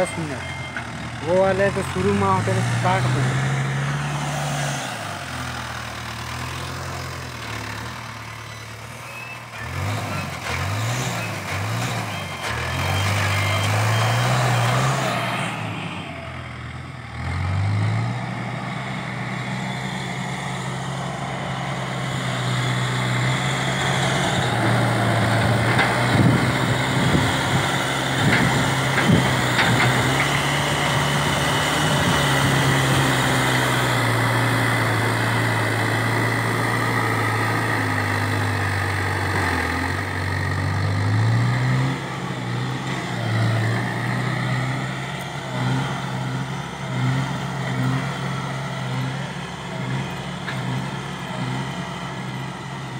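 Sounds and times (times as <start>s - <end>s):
diesel engine running under load: 0.0s - 52.9s.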